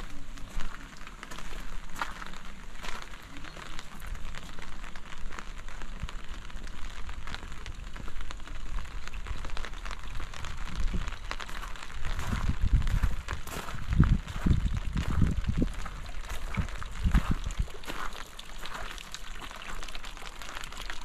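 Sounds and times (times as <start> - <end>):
raindrops ticking close: 0.0 - 21.0.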